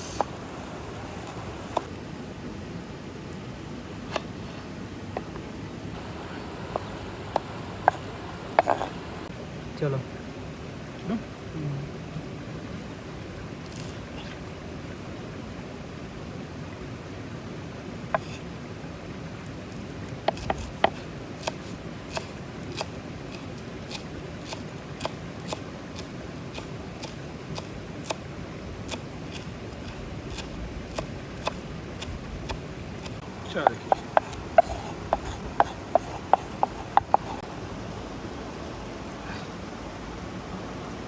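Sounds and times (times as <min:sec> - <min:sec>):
steady fire hiss: 0:00.0 - 0:41.0.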